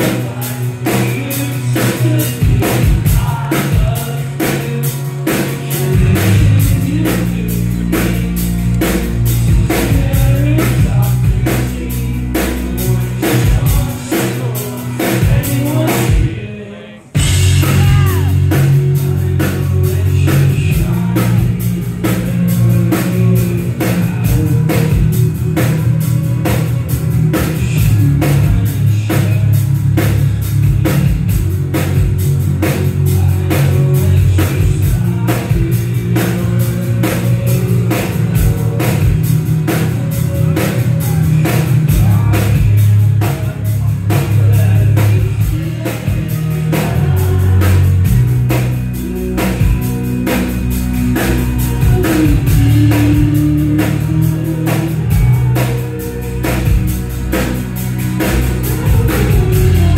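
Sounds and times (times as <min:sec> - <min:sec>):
drum kit beat: 0:00.0 - 0:16.5, 0:17.2 - 0:59.9
heavy bass: 0:00.0 - 0:59.9
male lead vocal: 0:00.0 - 0:59.9.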